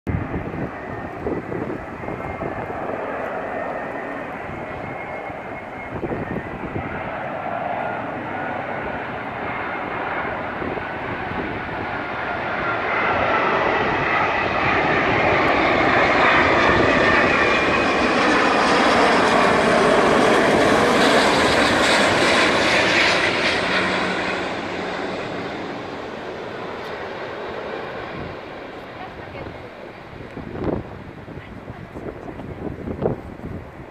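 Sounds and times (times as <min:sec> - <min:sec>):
jet airliner rumble: 0:00.1 - 0:33.9.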